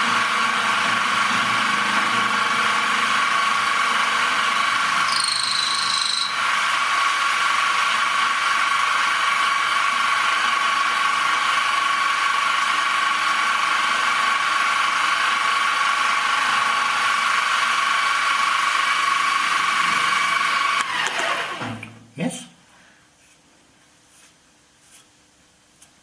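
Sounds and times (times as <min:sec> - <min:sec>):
machine tool whining: 0:00.0 - 0:21.9.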